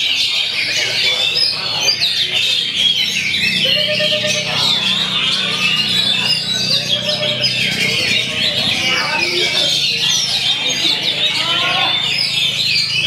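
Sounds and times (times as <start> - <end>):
bird singing chirps and whistles: 0.0 - 13.0.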